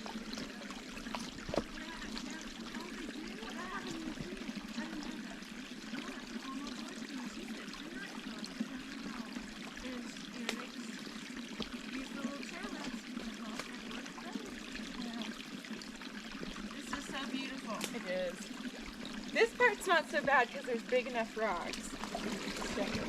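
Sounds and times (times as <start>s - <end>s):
stream gurgling over rocks: 0.0s - 23.0s.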